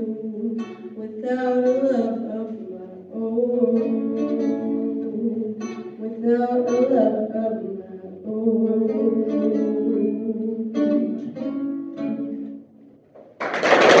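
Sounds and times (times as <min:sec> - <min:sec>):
guitar plucked chords: 0:00.0 - 0:13.0.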